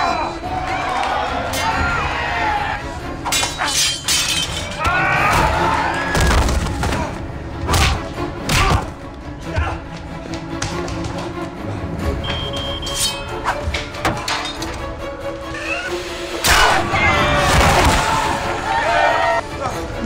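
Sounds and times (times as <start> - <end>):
film score music: 0.0 - 20.0.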